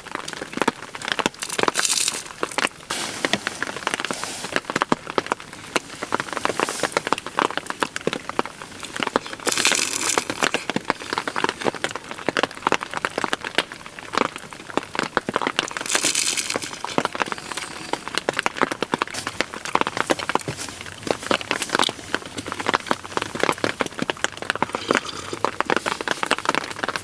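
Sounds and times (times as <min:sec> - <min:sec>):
heavy rain drops hitting close: 0:00.0 - 0:27.0.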